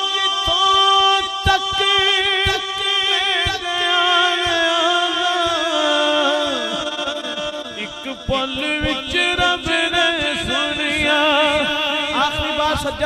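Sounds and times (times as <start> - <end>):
man singing through loudspeaker: 0.0 - 13.0.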